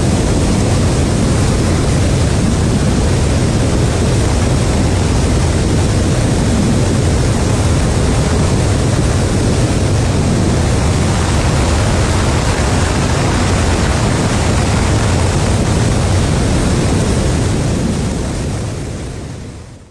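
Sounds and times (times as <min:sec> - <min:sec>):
jet engines and airflow rushing: 0:00.0 - 0:19.9.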